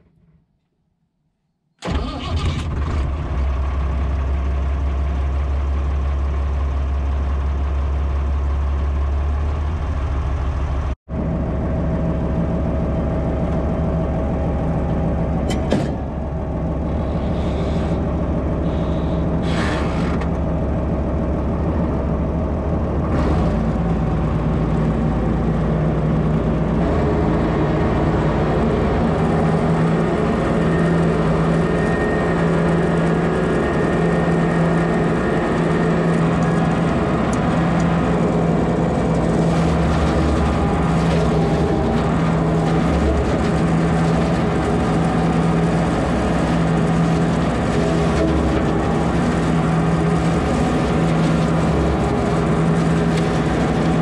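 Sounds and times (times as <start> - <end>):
tractor diesel engine droning: 1.8 - 54.0.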